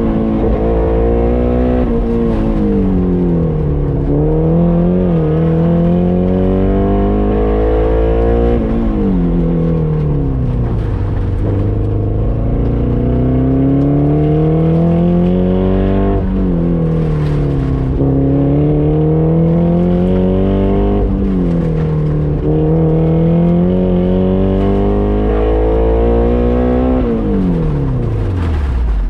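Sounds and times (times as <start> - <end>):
car engine accelerating and shifting: 0.0 - 29.0.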